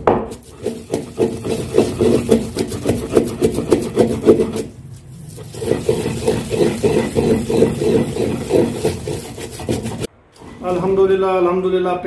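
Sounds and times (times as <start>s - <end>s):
wooden pestle grinding paste: 0.0s - 11.0s.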